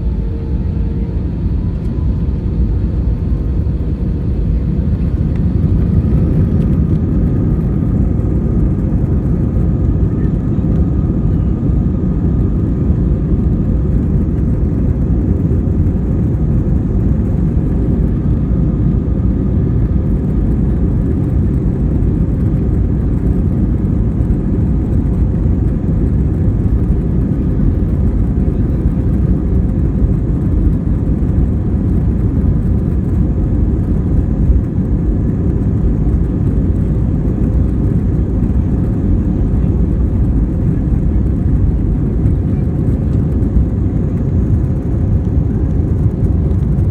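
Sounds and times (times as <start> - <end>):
jet engines heard from cabin: 0.0 - 46.9.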